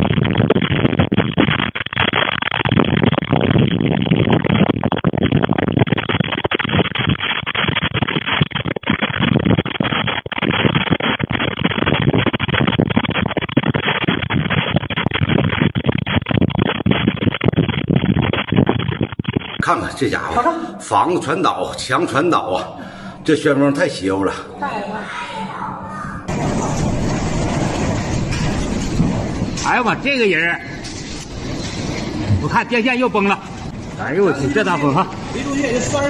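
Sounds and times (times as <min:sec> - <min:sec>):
rain: 0:00.0 - 0:19.6, 0:26.3 - 0:36.0
loud rushing wind: 0:00.0 - 0:36.0.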